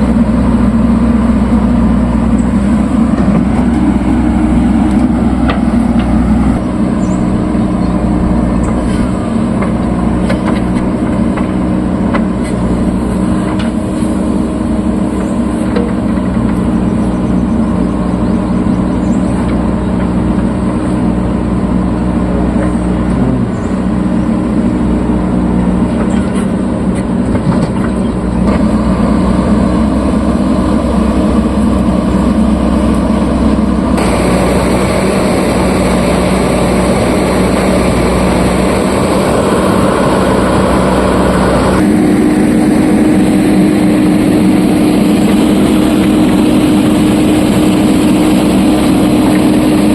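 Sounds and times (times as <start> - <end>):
diesel engines droning: 0.0 - 49.9.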